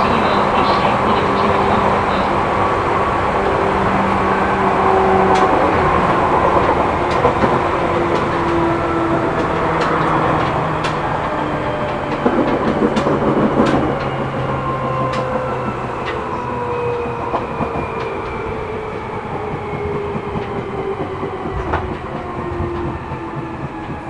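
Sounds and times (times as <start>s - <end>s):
train running rumble: 0.0s - 24.0s
wheels clicking on rails: 0.0s - 24.0s.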